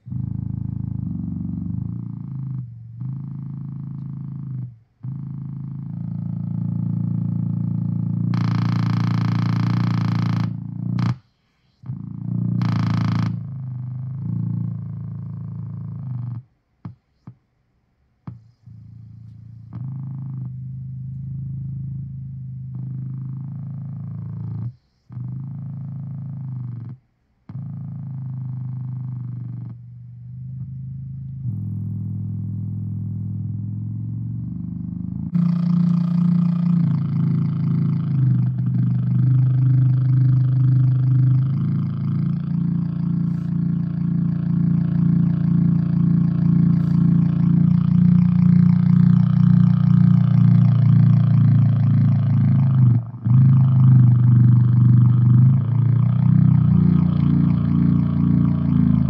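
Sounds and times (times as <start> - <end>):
low growling synthesizer drone: 0.0 - 11.2, 11.8 - 16.4, 18.7 - 24.7, 25.3 - 59.0.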